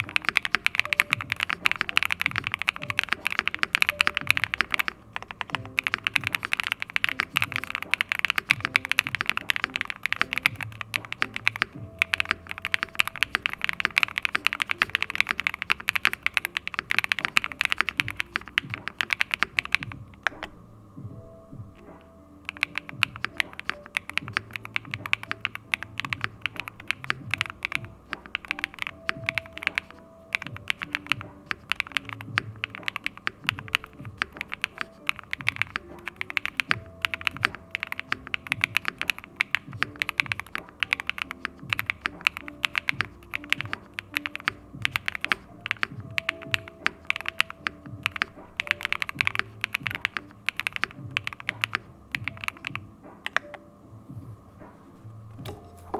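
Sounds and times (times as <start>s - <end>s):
mechanical keyboard typing: 0.0s - 53.6s, 55.4s - 55.9s
soft background music: 0.0s - 55.9s.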